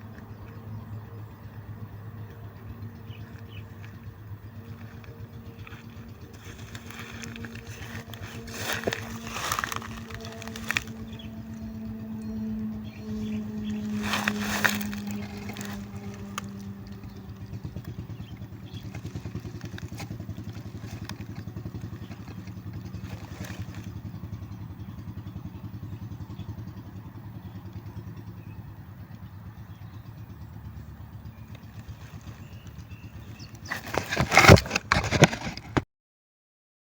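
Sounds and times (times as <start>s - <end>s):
small motorcycle engine running: 0.0s - 35.8s.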